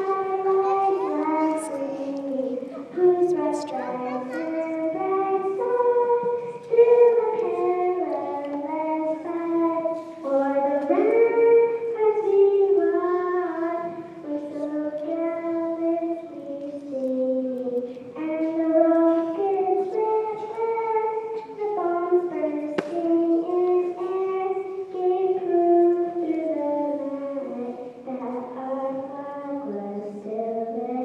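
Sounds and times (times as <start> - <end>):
girl singing unaccompanied: 0.0 - 31.0.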